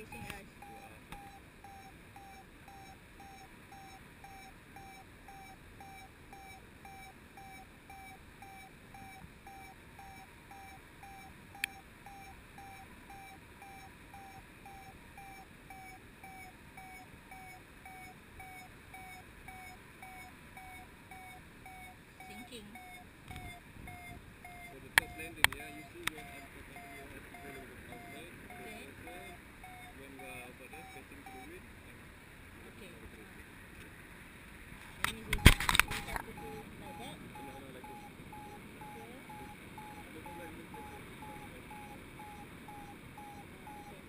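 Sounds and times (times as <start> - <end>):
variometer short beeps: 0.0 - 31.6, 35.0 - 44.0.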